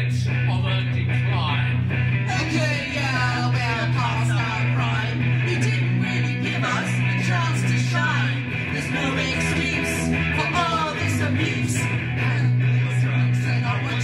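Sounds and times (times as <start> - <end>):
bass line: 0.0 - 14.0
electric guitar phrases: 0.0 - 14.0.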